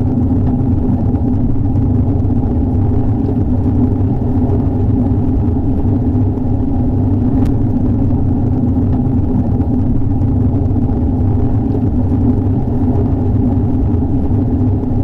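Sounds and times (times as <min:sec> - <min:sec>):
steady rain rumble: 0:00.0 - 0:15.0.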